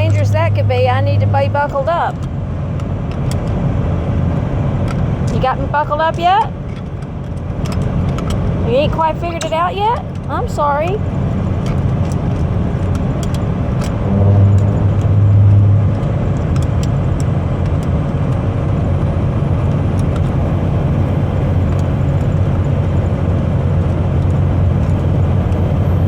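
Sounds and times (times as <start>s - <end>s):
car road noise and engine drone: 0.0s - 26.0s.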